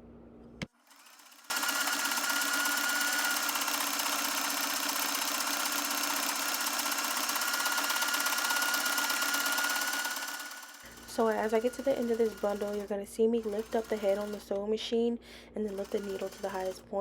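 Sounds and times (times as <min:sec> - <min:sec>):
sewing machine motor whine: 0:00.8 - 0:14.6, 0:15.6 - 0:17.0
sewing machine needle chatter: 0:00.9 - 0:14.6, 0:15.6 - 0:16.9.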